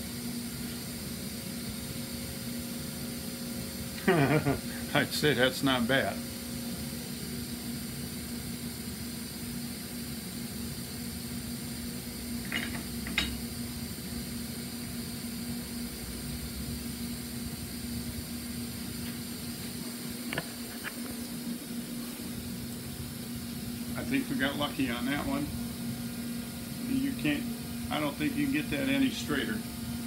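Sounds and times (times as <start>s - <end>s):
workshop hum and hiss: 0.0s - 30.0s.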